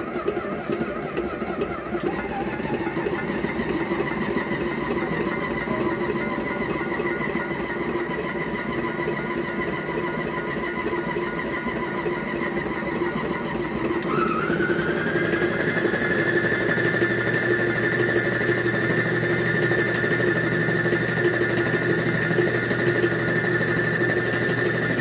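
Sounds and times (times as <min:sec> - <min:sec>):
stand mixer motor whine: 0:00.0 - 0:25.0.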